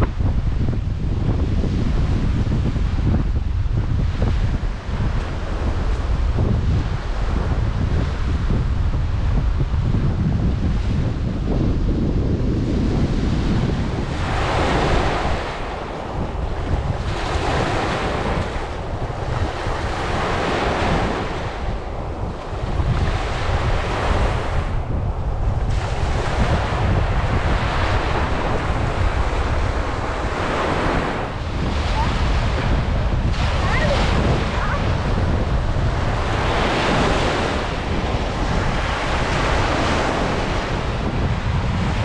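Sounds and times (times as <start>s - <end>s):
waves breaking on sandy shore: 0.0s - 42.0s
wind rumble on microphone: 0.0s - 42.0s.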